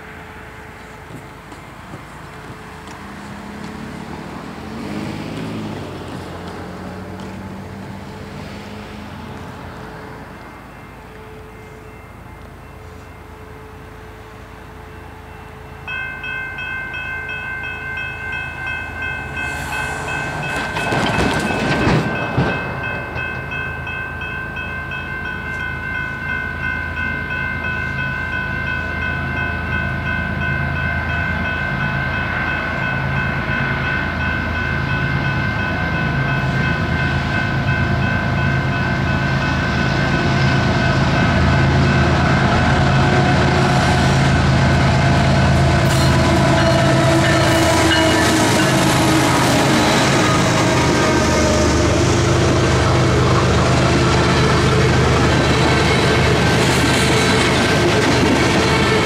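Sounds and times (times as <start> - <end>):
freight train locomotive rumble: 0.0 - 59.0
crossing warning bell ringing: 9.6 - 59.0.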